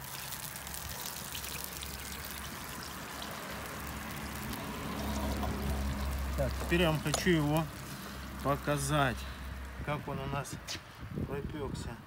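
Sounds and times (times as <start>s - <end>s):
fat sizzling and crackling: 0.0s - 10.9s.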